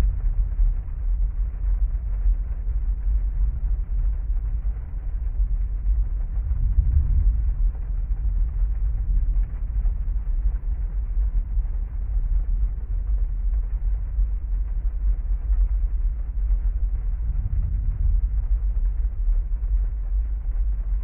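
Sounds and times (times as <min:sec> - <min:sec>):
heavy rain on car: 0:00.0 - 0:21.0.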